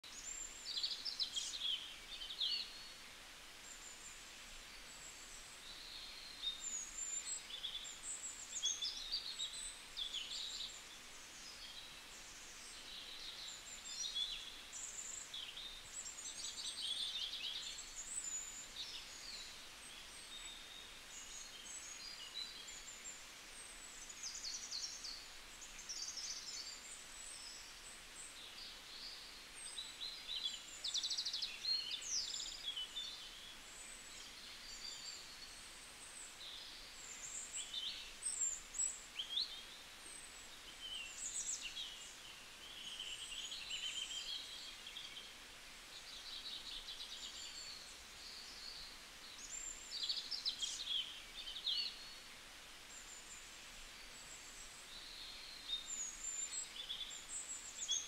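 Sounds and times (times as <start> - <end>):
faint steady hiss: 0.0 - 58.0
small birds chirping: 0.0 - 58.0.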